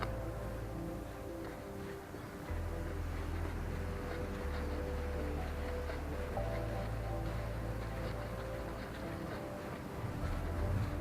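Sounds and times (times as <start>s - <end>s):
background music with held notes: 0.0s - 11.0s
steady low rumble: 0.0s - 11.0s.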